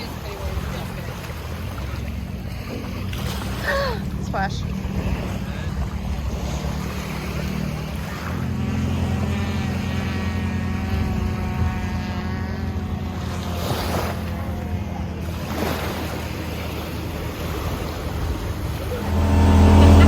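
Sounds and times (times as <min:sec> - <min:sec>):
engine humming: 0:00.5 - 0:20.0.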